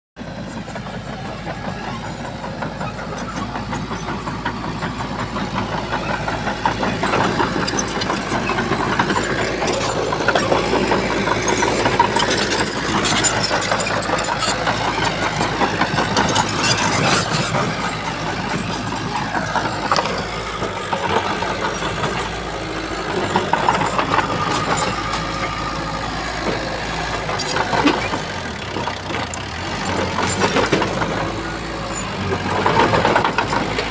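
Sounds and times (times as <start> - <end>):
heavy machine engine running: 0.2 - 33.9
knocks and clanks: 0.8 - 33.9.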